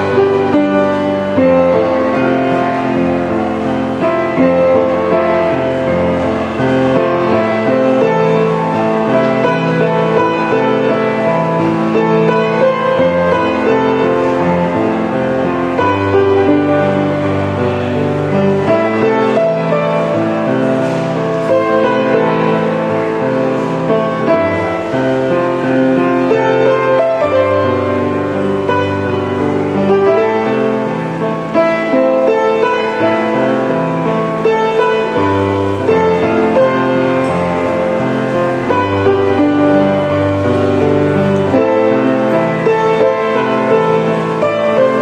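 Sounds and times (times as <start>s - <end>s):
slow piano chords: 0.0s - 45.0s.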